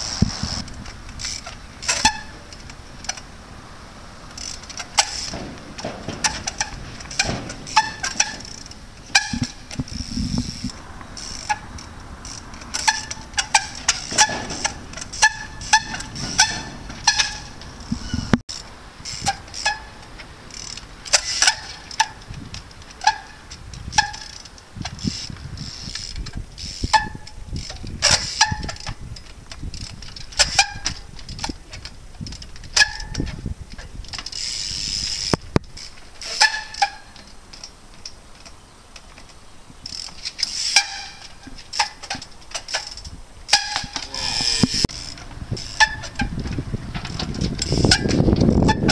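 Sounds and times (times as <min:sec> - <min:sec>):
short squeaks: 0:00.0 - 0:03.3, 0:04.2 - 0:48.9
bicycle tyres and frame knocking: 0:00.0 - 0:48.9.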